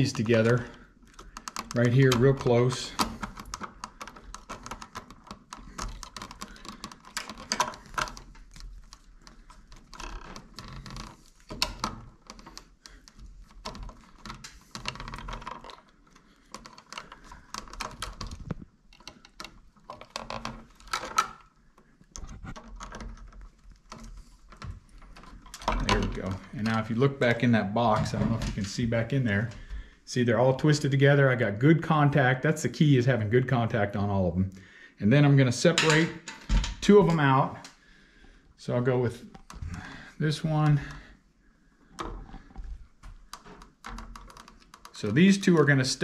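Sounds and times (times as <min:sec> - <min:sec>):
stiff wire clicking and scraping: 0:00.0 - 0:34.0, 0:35.4 - 0:46.0.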